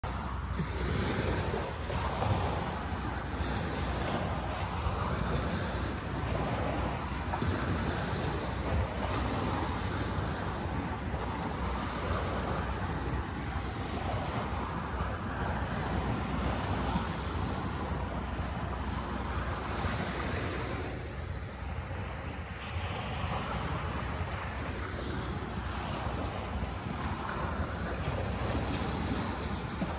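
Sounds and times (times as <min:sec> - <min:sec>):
waves washing onto beach: 0:00.0 - 0:29.9
wind rumbling on microphone: 0:00.0 - 0:29.9.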